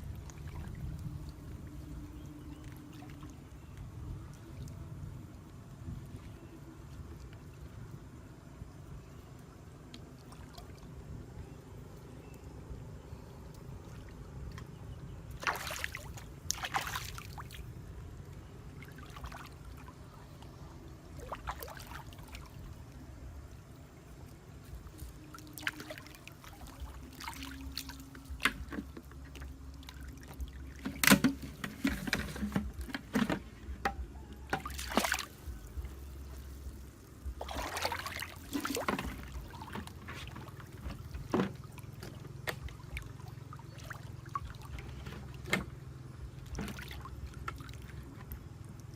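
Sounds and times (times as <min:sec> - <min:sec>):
low background rumble: 0:00.0 - 0:48.9
water splashing and trickling: 0:00.0 - 0:48.9.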